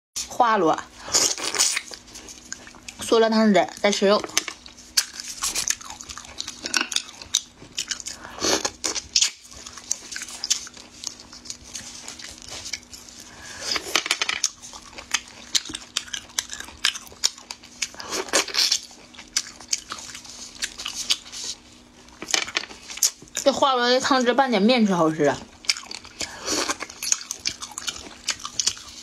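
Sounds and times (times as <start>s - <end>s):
chewing and smacking: 1.3s - 3.1s, 3.7s - 23.5s, 25.4s - 29.0s.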